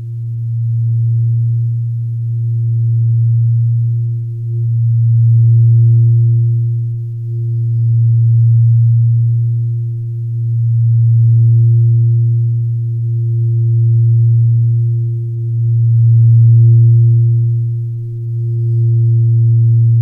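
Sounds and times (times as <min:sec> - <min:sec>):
low drone: 0:00.0 - 0:20.0.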